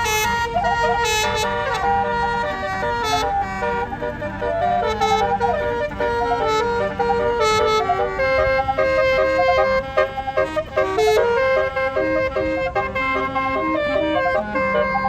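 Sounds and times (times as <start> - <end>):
bus horn playing melody: 0.0 - 15.0.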